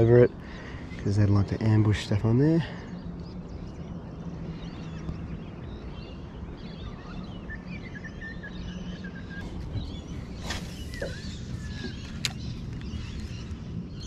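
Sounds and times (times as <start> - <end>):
birds chirping and whistling: 2.4 - 14.0.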